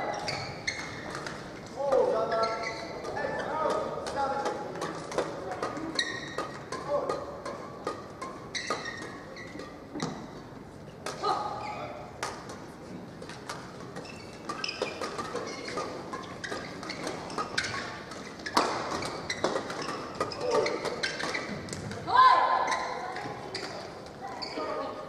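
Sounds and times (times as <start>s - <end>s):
shoes squeaking on court floor: 0.0s - 12.1s, 13.3s - 25.0s.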